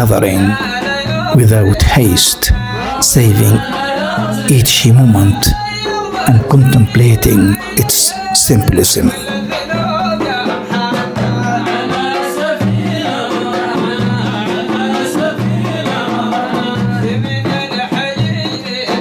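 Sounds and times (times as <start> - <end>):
music with singing: 0.0 - 19.0.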